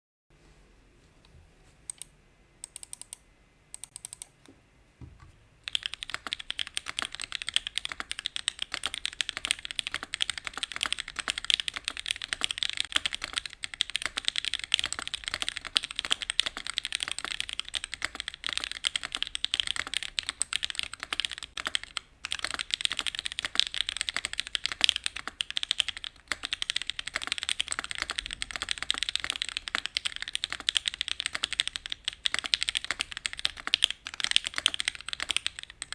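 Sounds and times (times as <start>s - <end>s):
typing on mechanical keyboard: 1.9s - 3.2s, 3.8s - 4.4s, 5.7s - 35.9s.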